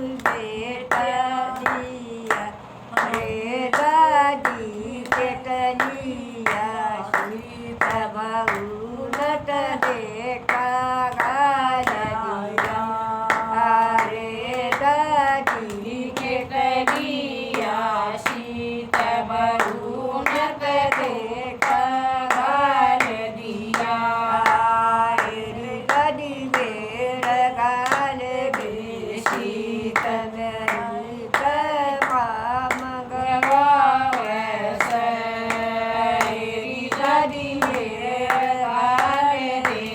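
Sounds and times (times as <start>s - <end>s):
hand clapping: 0.0s - 39.9s
person singing devotional song: 0.0s - 39.9s.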